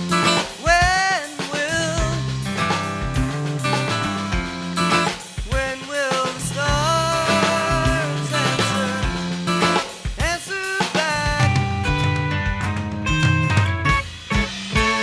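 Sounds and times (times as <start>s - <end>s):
rock music with drums: 0.0s - 15.0s.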